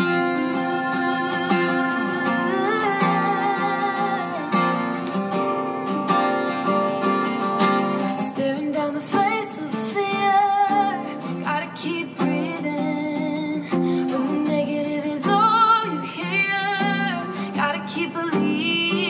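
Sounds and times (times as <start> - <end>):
woman singing: 0.0 - 5.2, 8.1 - 19.0
acoustic guitar strumming chords: 0.0 - 19.0.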